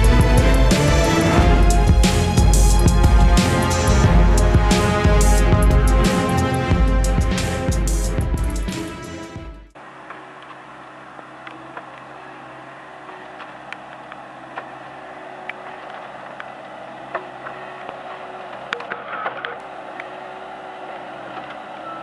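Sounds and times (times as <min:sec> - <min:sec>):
diesel engine running: 0:00.0 - 0:09.1, 0:09.8 - 0:22.0.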